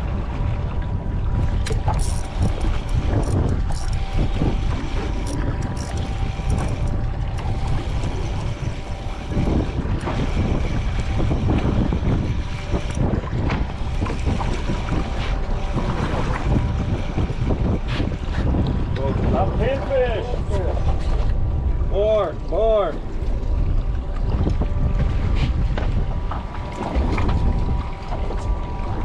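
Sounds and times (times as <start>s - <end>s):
low rumble: 0.0s - 29.0s
wind buffeting microphone: 0.0s - 29.0s.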